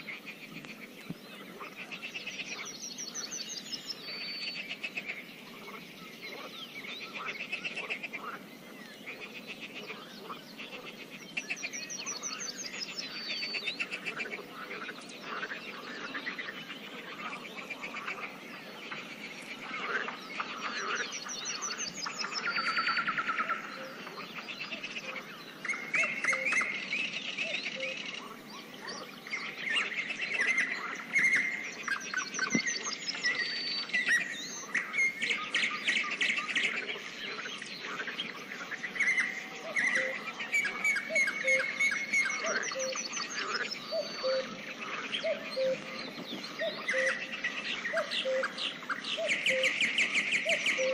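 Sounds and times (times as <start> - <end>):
birds singing and chirping: 0.0 - 50.9.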